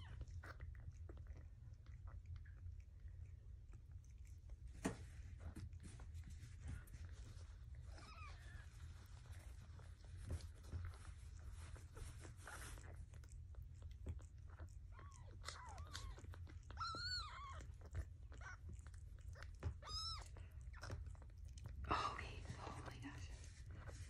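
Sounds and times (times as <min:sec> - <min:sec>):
cloth rubbing kittens: 0:04.5 - 0:24.0.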